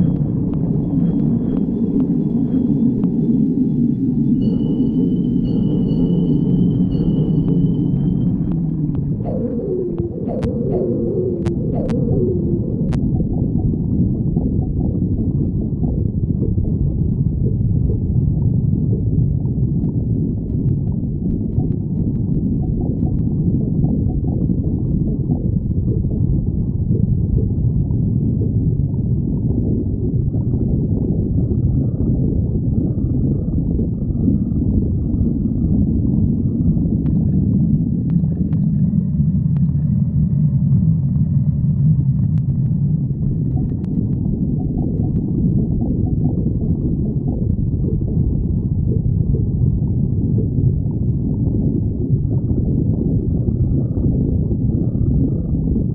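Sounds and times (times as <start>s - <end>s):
stomach growling: 6.9s - 55.9s.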